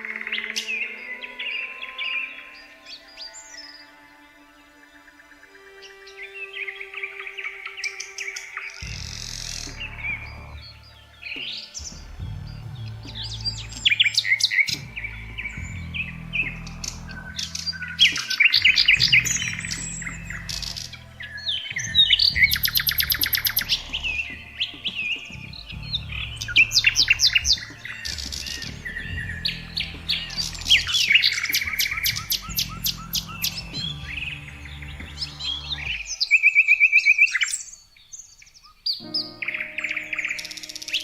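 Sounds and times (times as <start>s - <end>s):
soft background music: 0.0s - 38.0s, 39.0s - 41.0s
songbirds chirping and trilling: 0.0s - 41.0s.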